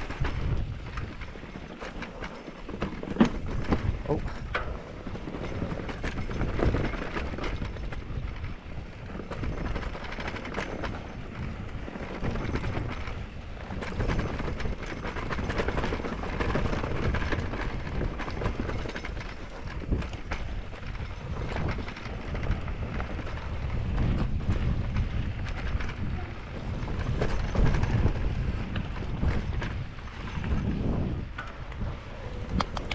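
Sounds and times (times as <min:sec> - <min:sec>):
bike rattling over bumps: 0:00.0 - 0:32.9
wind rumbling on microphone: 0:00.0 - 0:32.9.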